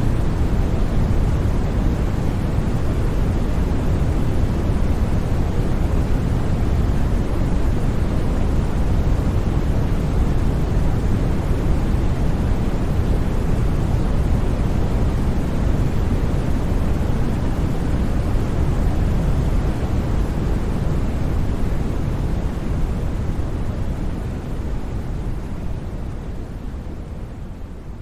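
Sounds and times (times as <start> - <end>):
low white noise: 0.0 - 28.0.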